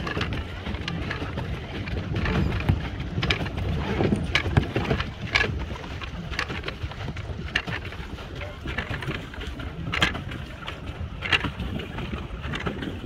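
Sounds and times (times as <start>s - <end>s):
low wind rumble: 0.0s - 13.0s
water splashing against hull: 0.0s - 13.0s.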